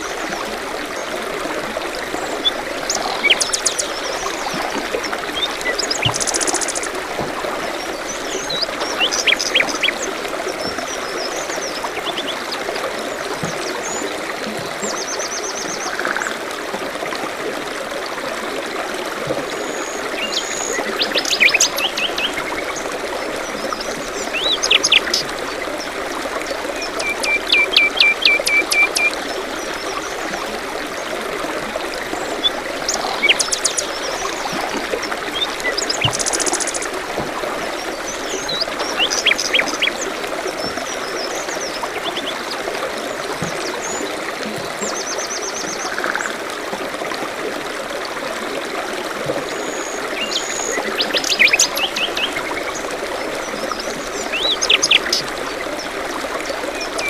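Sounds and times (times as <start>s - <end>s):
trickle of running water: 0.0s - 57.0s.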